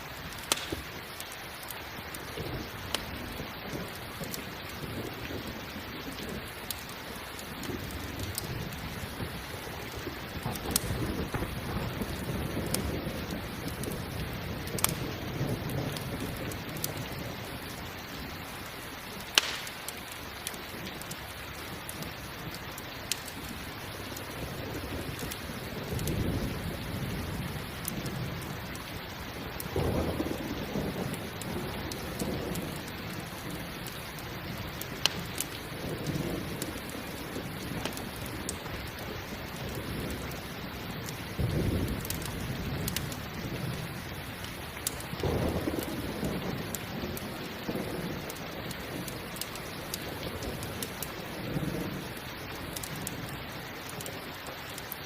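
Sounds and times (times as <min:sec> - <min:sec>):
campfire crackling: 0:00.0 - 0:55.0
steady rain: 0:00.0 - 0:55.0
low thunder rumbles: 0:02.2 - 0:19.8, 0:23.2 - 0:54.3.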